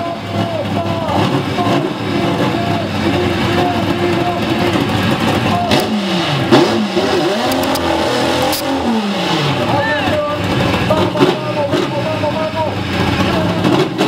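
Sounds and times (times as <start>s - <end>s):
car engine lumpy idle: 0.0s - 8.0s, 8.6s - 14.0s
engine revving: 0.2s - 14.0s.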